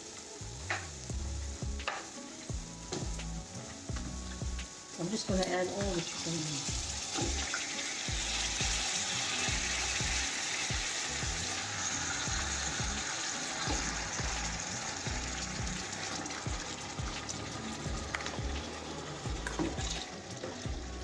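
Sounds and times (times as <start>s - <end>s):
background music: 0.0s - 21.0s
chicken sizzling in a pot: 0.0s - 21.0s.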